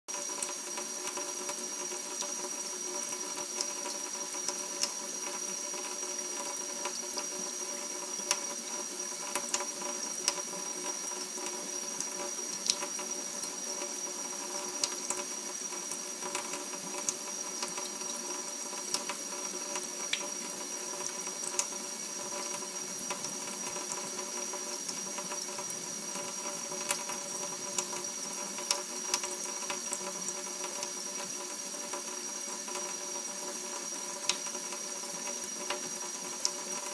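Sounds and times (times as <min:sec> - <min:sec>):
faucet water running into sink: 0:00.1 - 0:36.9.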